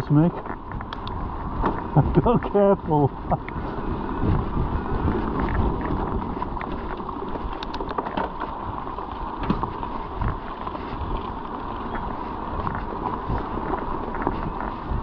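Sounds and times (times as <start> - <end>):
bike clicks and rattles: 0.0 - 15.0
bike tyres rumbling: 0.0 - 15.0
wind buffeting microphone: 0.0 - 15.0.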